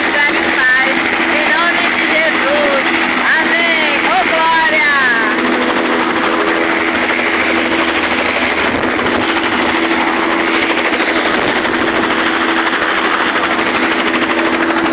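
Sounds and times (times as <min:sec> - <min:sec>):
helicopter engine and rotor: 0:00.0 - 0:14.9.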